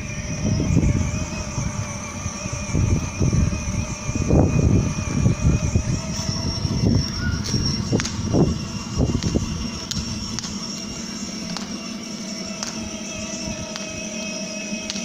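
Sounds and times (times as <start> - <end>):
faint whining tones: 0.0 - 15.0
motorbike engine rumbling: 0.0 - 15.0.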